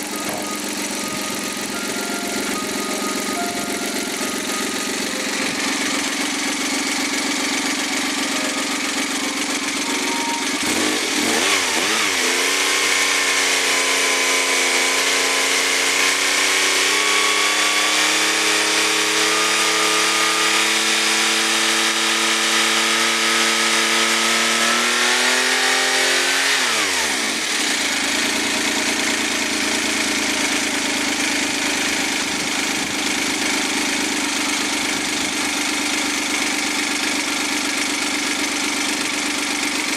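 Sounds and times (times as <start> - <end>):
turbo engine revving: 0.0 - 39.9.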